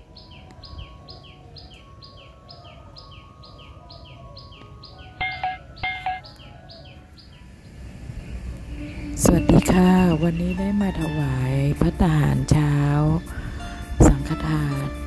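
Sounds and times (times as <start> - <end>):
birds chirping: 0.0 - 15.0
soft background music: 0.0 - 15.0.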